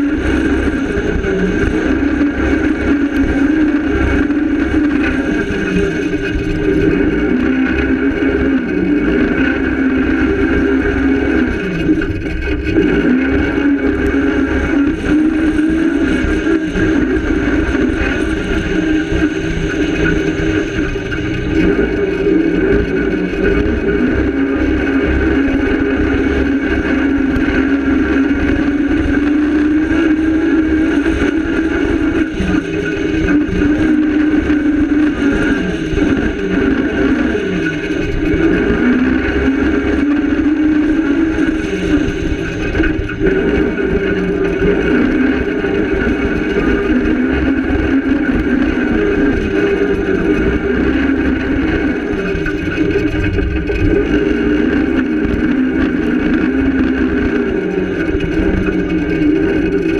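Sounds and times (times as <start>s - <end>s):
rally car engine running hard: 0.0s - 59.9s.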